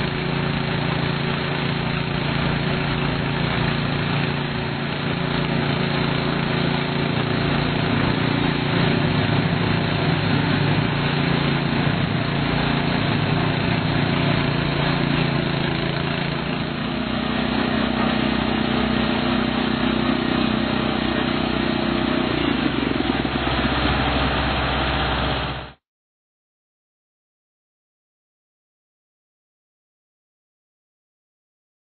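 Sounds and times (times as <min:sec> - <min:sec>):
boat engine running steadily: 0:00.0 - 0:25.8.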